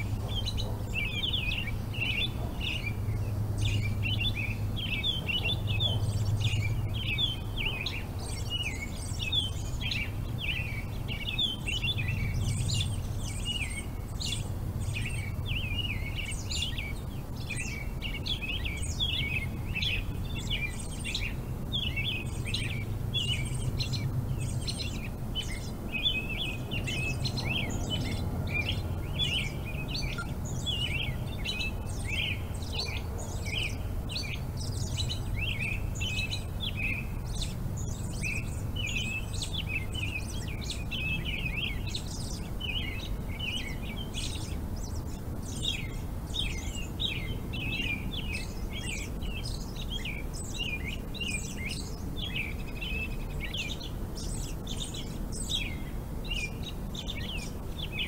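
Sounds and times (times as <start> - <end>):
low steady rumble: 0.0 - 57.9
small birds chirping: 0.0 - 58.0.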